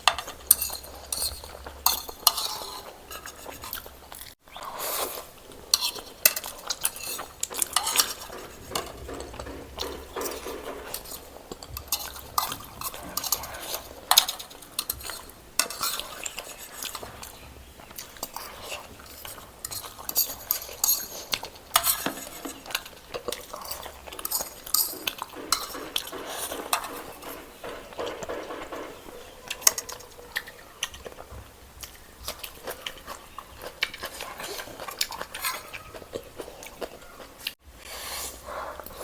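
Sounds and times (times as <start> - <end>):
cutlery clinking on a dish: 0.0 - 4.2, 5.7 - 36.0.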